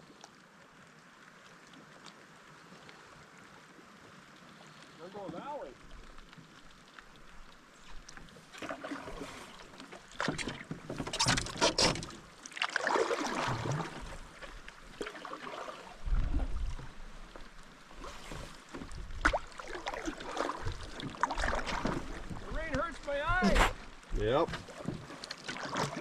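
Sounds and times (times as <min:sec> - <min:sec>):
paddle splashes: 0:00.0 - 0:26.0
waves against hull: 0:01.8 - 0:26.0.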